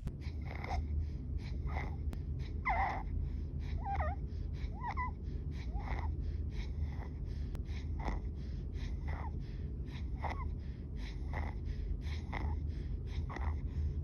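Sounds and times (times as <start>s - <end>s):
harsh laboured breathing with stridor: 0.0s - 14.0s.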